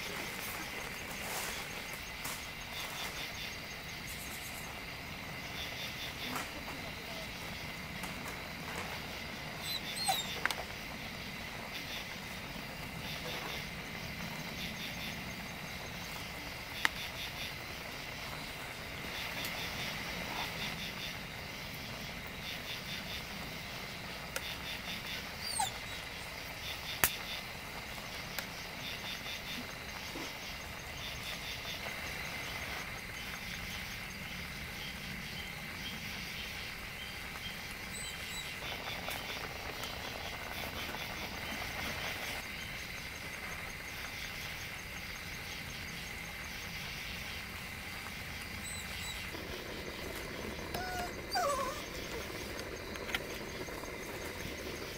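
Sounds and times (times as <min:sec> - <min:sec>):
insects chirping: 0:00.0 - 0:54.9
stew simmering hiss: 0:00.0 - 0:54.9.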